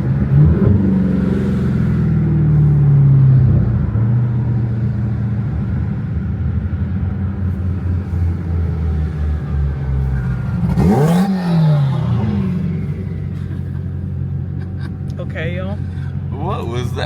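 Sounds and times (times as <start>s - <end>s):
car engine revving: 0.0s - 17.0s
car engine running: 0.0s - 17.0s.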